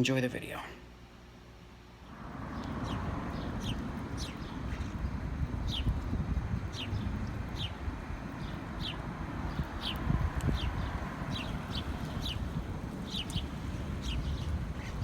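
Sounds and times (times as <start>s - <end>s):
small birds chirping: 2.0s - 15.0s.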